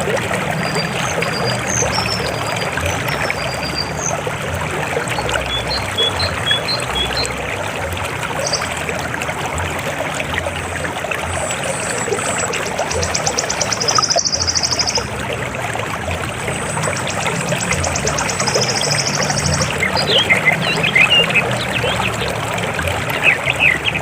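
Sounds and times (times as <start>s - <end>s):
river water flowing and splashing: 0.0s - 24.0s.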